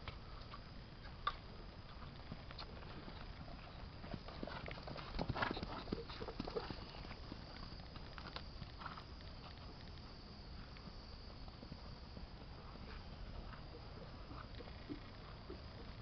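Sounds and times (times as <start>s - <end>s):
horse hoofbeats on grass: 1.7s - 15.8s.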